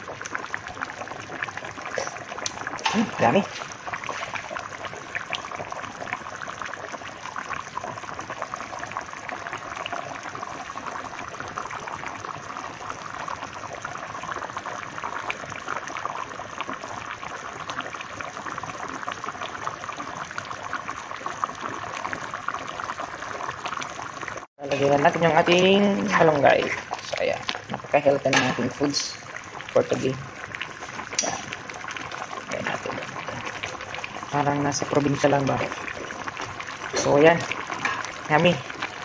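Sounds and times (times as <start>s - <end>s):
stew bubbling and popping: 0.0s - 39.0s.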